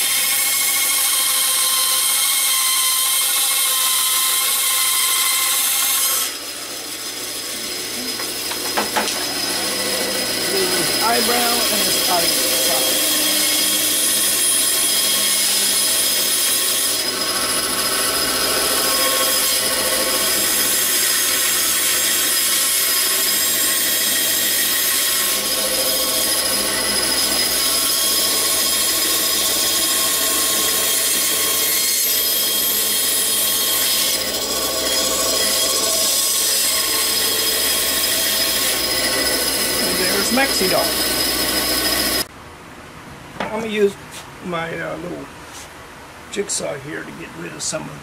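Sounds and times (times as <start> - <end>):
band saw whining: 0.0 - 42.3.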